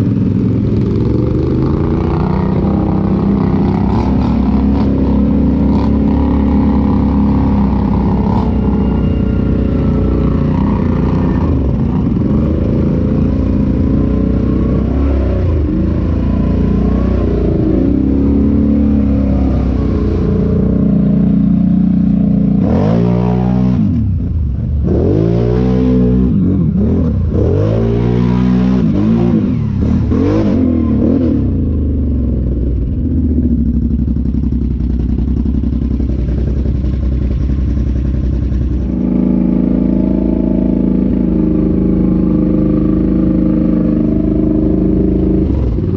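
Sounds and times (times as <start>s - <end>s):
off-road vehicle engine revving: 0.0s - 45.9s.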